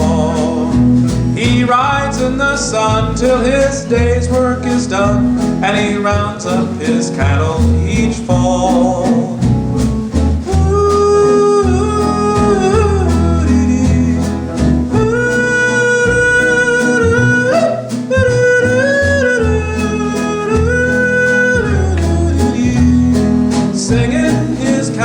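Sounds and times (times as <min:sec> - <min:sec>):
held sliding melody line: 0:00.0 - 0:25.0.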